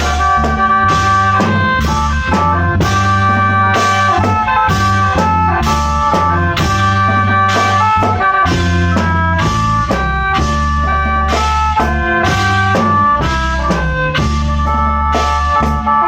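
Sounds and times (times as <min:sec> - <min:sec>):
bass: 0:00.0 - 0:16.0
drum kit beat: 0:00.0 - 0:16.0
mouth organ chords: 0:00.0 - 0:16.0.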